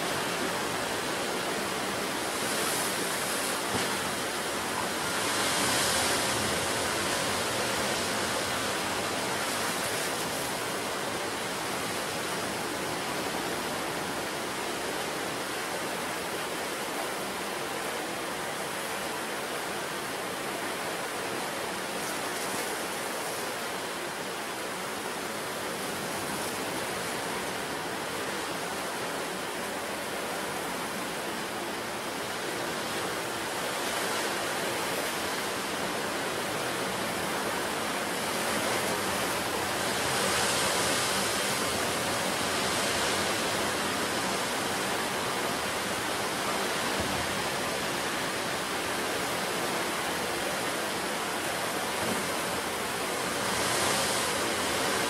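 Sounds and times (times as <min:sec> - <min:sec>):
sea surf rushing onto shore: 0:00.0 - 0:55.0.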